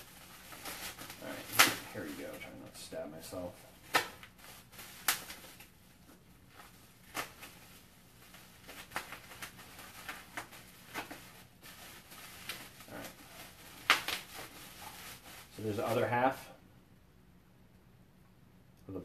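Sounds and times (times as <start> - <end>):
plastic packaging crackling: 0.0 - 2.7, 3.3 - 16.4.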